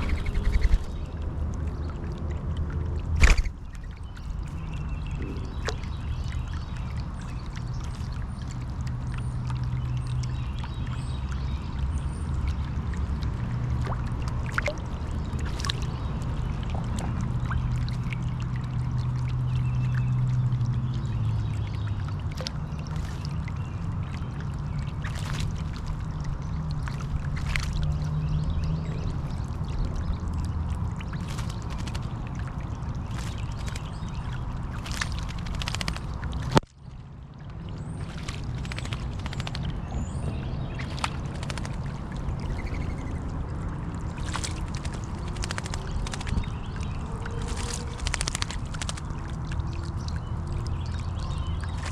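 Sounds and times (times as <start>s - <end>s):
fountain water splashing: 0.0s - 51.9s
low pump hum: 0.0s - 51.9s.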